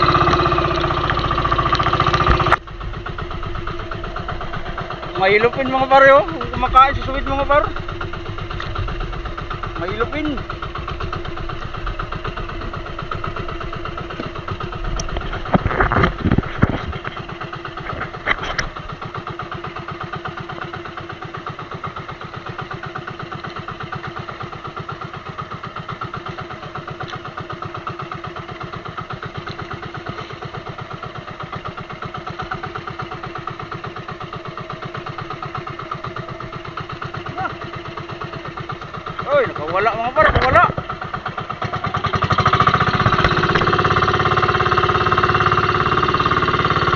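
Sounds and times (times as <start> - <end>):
small boat engine running: 0.0 - 46.9.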